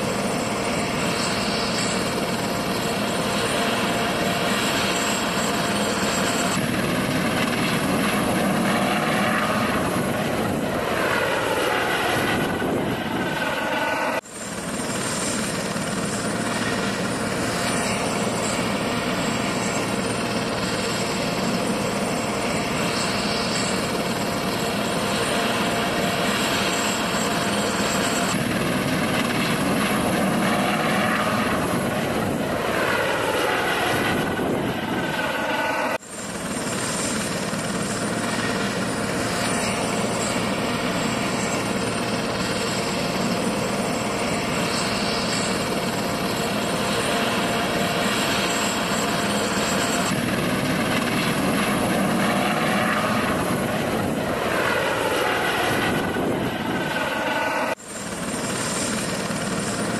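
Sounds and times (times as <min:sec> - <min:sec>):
helicopter rotor and turbine whine: 0:00.0 - 0:59.9.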